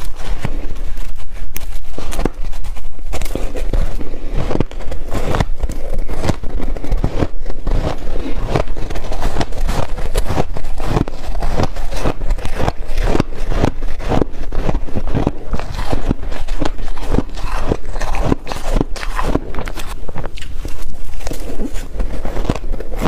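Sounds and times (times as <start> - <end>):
chewing crunchy ice: 0.0 - 23.0.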